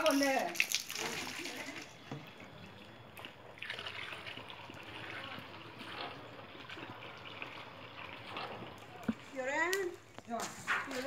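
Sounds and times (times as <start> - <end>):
water trickling onto concrete: 0.0 - 2.0, 2.7 - 10.0.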